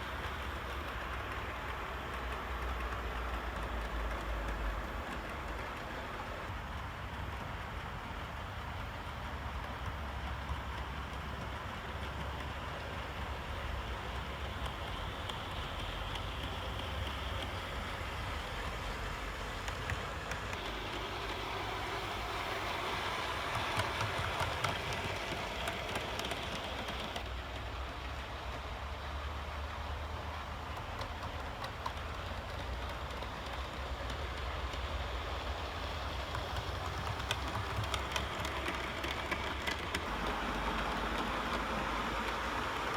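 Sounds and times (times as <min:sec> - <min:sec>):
model train rumbling on track: 0:00.0 - 0:42.9.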